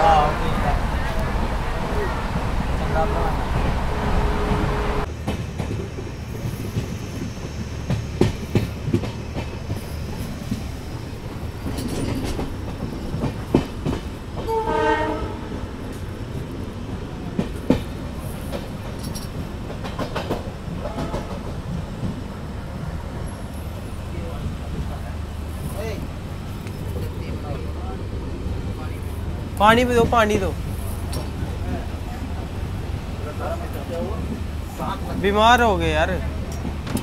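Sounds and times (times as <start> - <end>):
train wheels rumbling: 0.0 - 37.0
wheels clacking over rail joints: 5.0 - 37.0.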